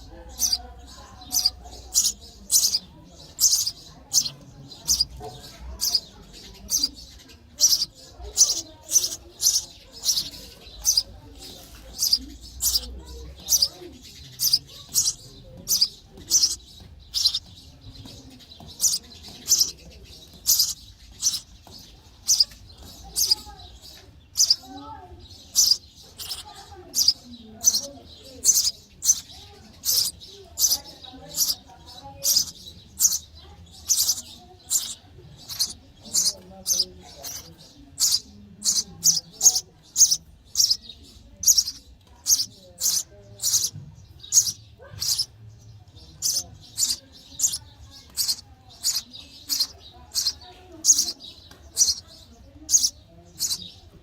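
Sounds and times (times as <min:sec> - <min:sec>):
nestlings chirping: 0:00.0 - 0:54.0.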